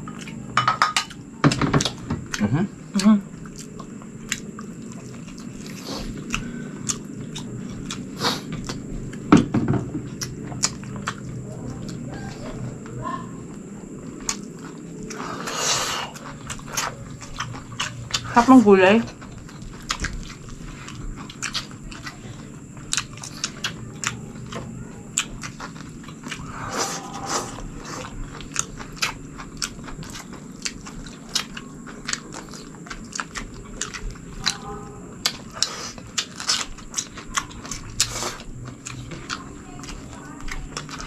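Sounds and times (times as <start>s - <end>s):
chewing and lip-smacking: 0.0s - 9.4s, 10.0s - 41.0s.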